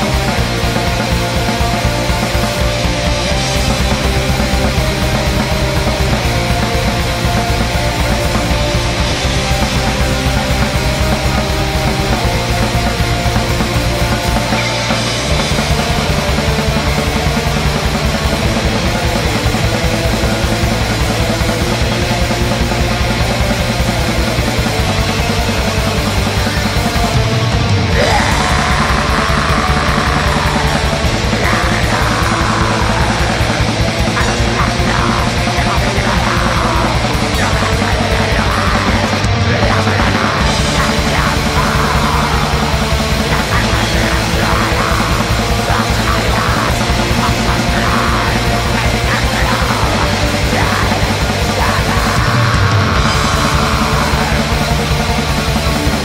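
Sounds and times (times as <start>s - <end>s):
bass notes: 0.0s - 56.0s
distorted electric guitars: 0.0s - 56.0s
rapid dense drumming: 0.0s - 56.0s.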